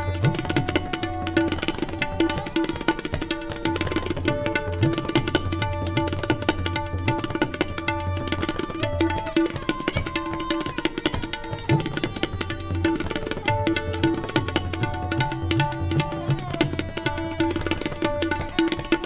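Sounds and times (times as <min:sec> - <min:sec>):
tabla played fast: 0:00.0 - 0:19.0.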